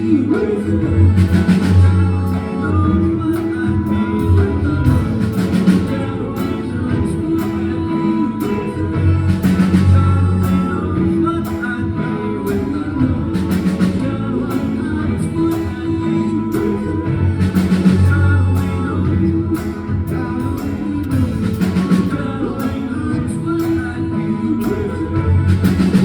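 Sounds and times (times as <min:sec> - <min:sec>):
live pop-rock band: 0:00.0 - 0:26.0
person singing: 0:00.0 - 0:26.0
steady drum beat: 0:00.3 - 0:26.0.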